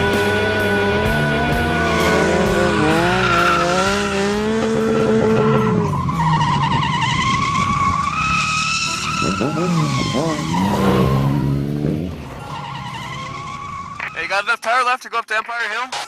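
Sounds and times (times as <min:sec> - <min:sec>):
motorcycle engines revving: 0:00.0 - 0:14.2
tires squealing and skidding: 0:00.0 - 0:14.4
wavering high-pitched squeal: 0:01.1 - 0:14.2.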